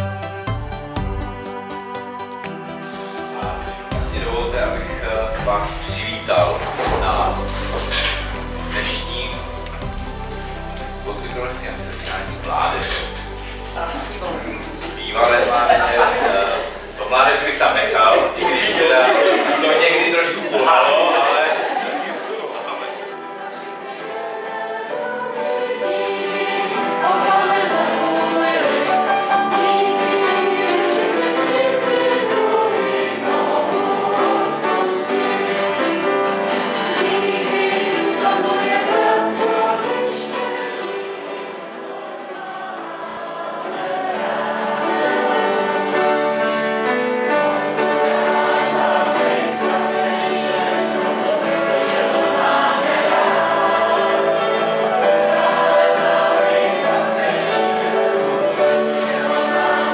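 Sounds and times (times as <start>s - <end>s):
group of people singing: 2.8s - 59.9s.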